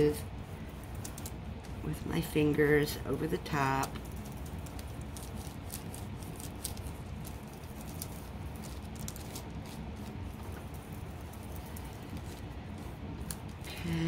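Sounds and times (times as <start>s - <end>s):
low steady rumble: 0.0s - 14.0s
wax paper crackling: 0.0s - 14.0s.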